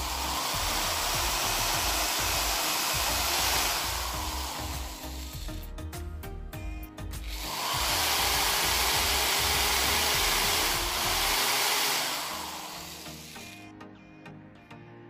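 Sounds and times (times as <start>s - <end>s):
electric drill boring into wood: 0.0s - 5.7s, 7.2s - 13.6s
background music: 0.0s - 15.0s.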